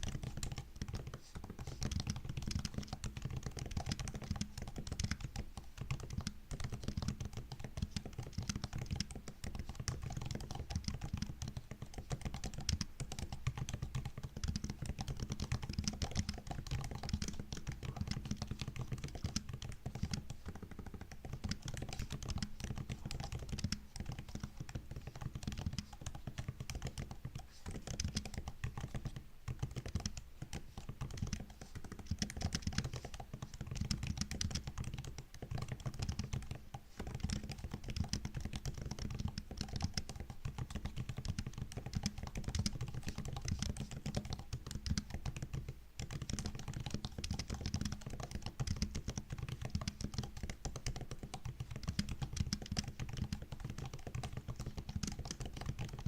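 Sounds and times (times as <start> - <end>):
fast typing on laptop keyboard: 0.0 - 56.0.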